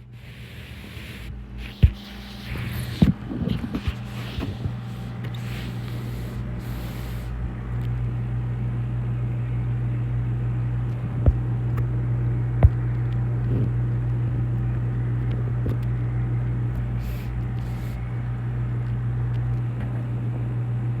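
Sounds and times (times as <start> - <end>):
aquarium equipment humming: 0.0 - 21.0.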